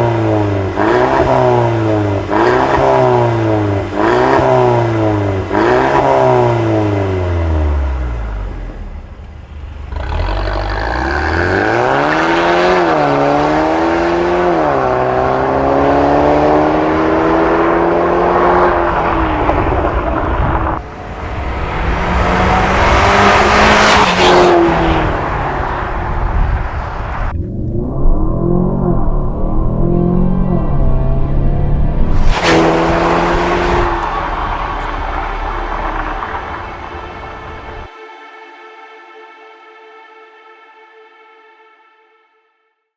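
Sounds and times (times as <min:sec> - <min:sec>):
car engine accelerating hard: 0:00.0 - 0:37.9.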